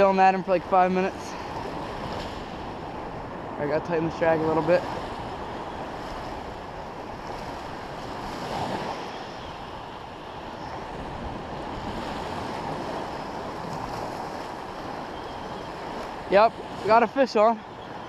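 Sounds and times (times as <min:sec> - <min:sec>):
ocean surf washing: 0:00.0 - 0:18.0
wind buffeting microphone: 0:00.0 - 0:18.0.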